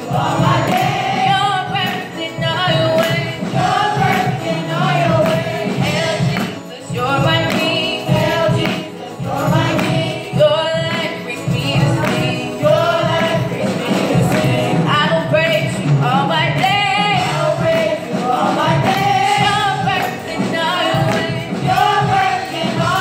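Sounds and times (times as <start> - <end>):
gospel choir singing: 0.0 - 23.0.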